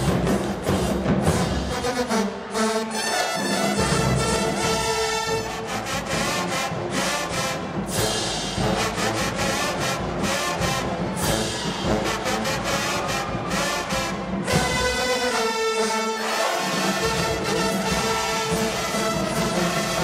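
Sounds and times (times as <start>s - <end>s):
marching band playing: 0.0s - 20.0s.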